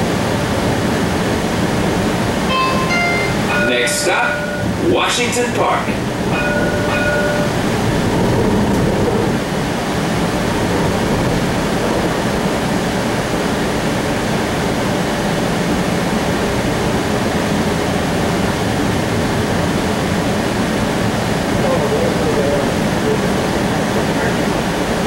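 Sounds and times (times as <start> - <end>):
streetcar rushing along track: 0.0 - 25.0.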